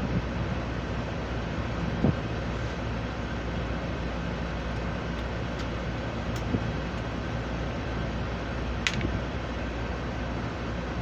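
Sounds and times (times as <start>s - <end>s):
air-conditioning hum: 0.0s - 11.0s.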